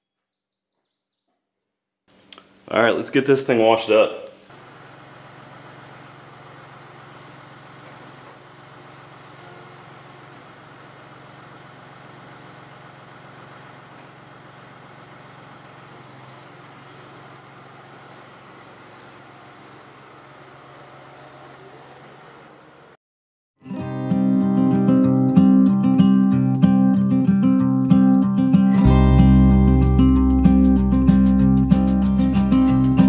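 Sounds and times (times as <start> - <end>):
tractor diesel engine running: 4.5 - 23.0, 24.1 - 33.0.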